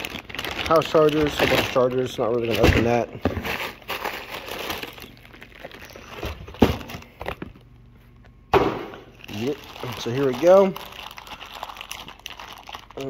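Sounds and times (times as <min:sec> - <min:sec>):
plastic bags rustling and crinkling: 0:00.0 - 0:07.6, 0:09.1 - 0:13.0.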